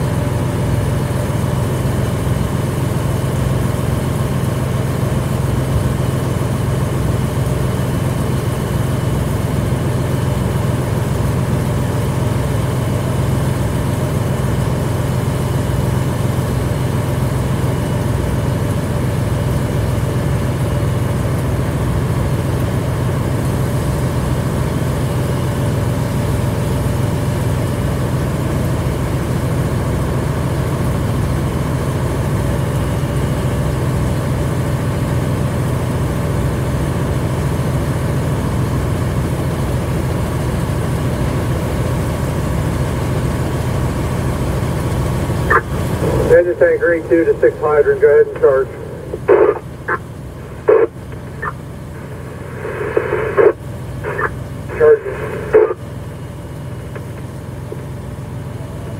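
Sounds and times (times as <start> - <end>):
fire engine engine droning: 0.0 - 58.9.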